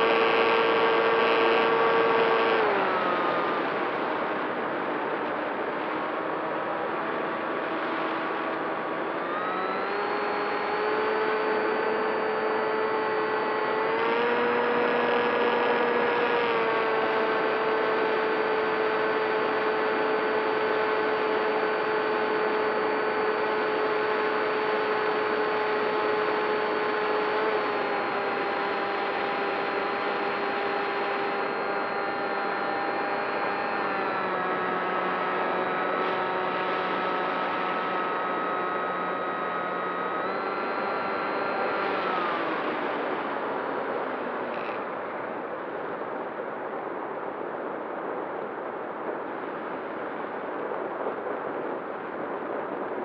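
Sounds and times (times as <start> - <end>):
model airplane motor whine: 0.0 - 46.5.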